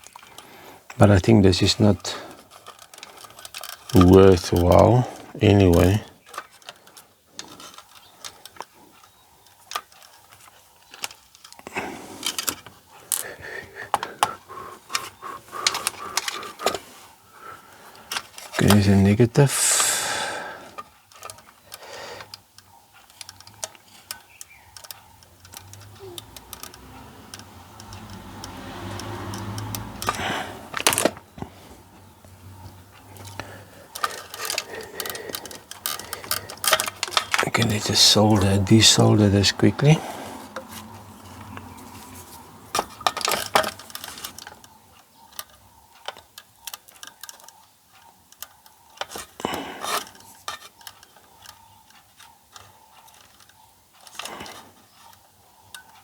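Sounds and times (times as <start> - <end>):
light clicks of electronic parts: 0.0 - 20.0, 20.6 - 56.0.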